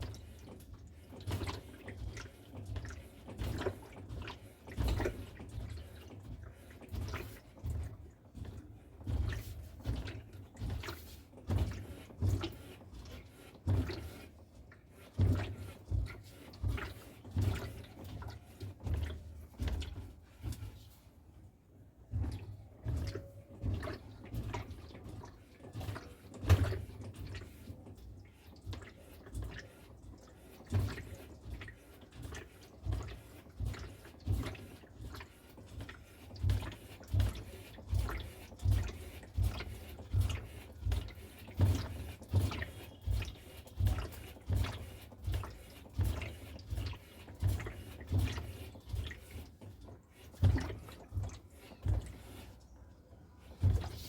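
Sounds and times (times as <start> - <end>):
washing machine sloshing water: 0.0 - 54.0.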